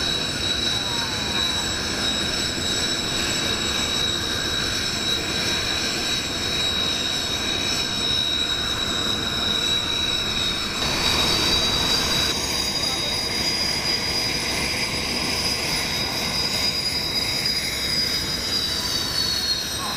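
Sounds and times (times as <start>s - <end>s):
jet engine whine and rumble: 0.0s - 19.9s.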